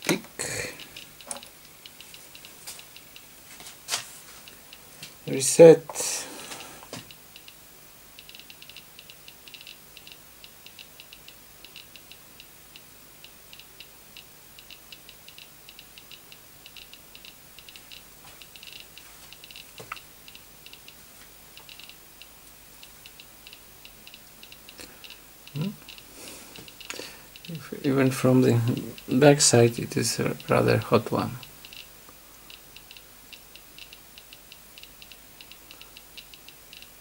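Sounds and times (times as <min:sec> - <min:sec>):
geiger counter clicking: 0:00.0 - 0:03.3, 0:06.5 - 0:37.0.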